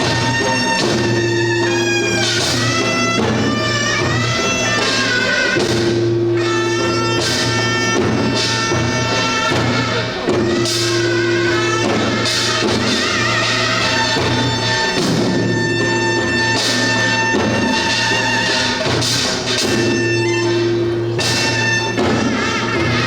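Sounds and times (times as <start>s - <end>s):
drum strokes: 0.0s - 23.0s
reedy wind melody: 0.0s - 23.0s.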